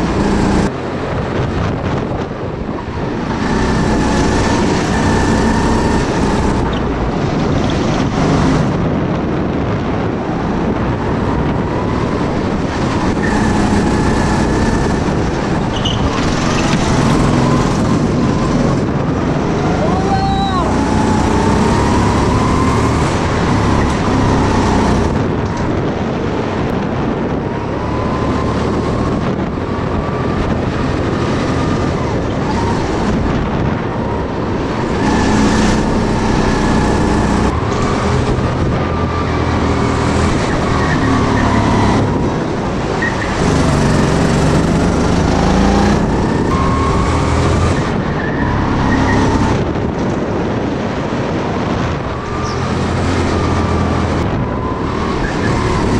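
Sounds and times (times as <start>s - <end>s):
go-kart engine revving: 0.0s - 0.9s, 2.5s - 8.9s, 10.4s - 26.4s, 27.4s - 55.9s.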